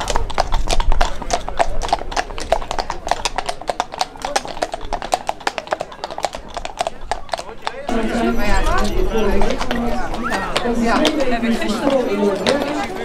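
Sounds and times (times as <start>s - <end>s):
horse hooves on brick: 0.0s - 13.0s.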